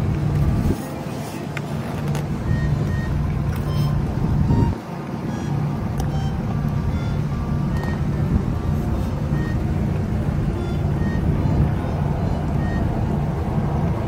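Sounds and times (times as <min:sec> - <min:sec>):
low mechanical hum: 0:00.0 - 0:14.0
low rumble: 0:01.7 - 0:14.0.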